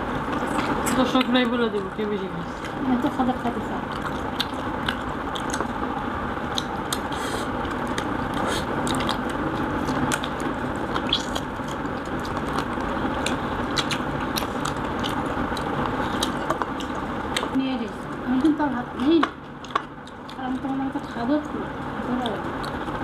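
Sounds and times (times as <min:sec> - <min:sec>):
people chewing and smacking: 0:00.2 - 0:01.9, 0:02.6 - 0:23.0.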